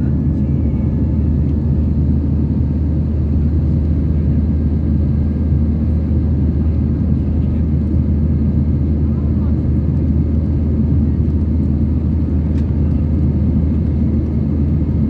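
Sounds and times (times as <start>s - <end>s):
engine and airflow rumble in cabin: 0.0s - 15.0s.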